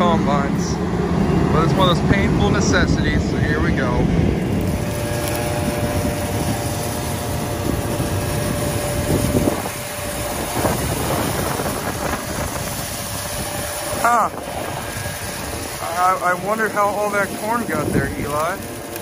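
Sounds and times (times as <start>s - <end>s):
air blower humming and rushing: 0.0s - 19.0s.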